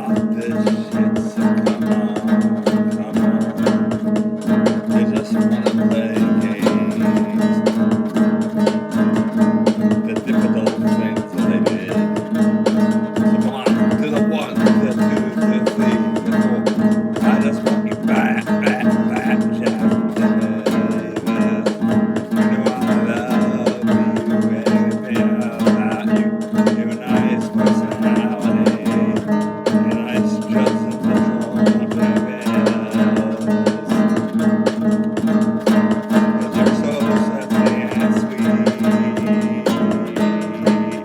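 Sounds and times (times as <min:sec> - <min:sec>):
acoustic guitar plucked and strummed: 0:00.0 - 0:41.0.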